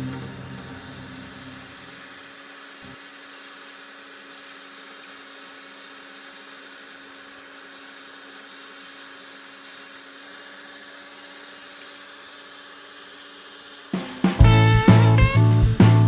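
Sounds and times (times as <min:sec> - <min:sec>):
small electric motor whirring: 0:00.0 - 0:13.9.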